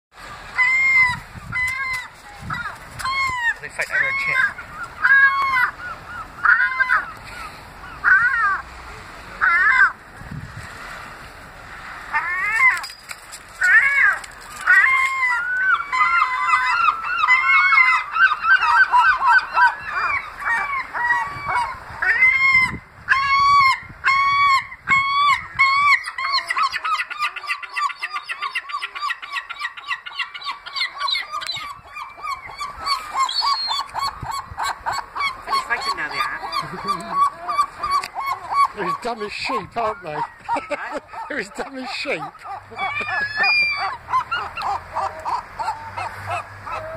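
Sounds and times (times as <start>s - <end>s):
gulls calling: 0.2s - 10.0s, 12.1s - 46.9s.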